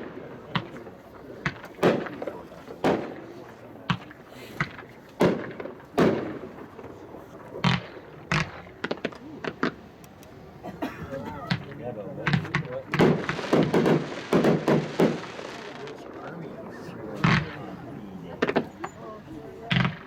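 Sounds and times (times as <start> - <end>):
fireworks bangs with echo: 0.0 - 9.9, 11.5 - 19.0, 19.6 - 20.0.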